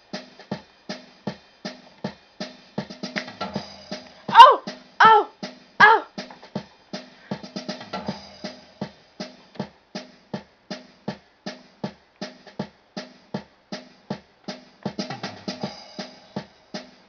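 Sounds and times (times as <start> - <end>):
electronic keyboard drum beat: 0.0 - 17.0.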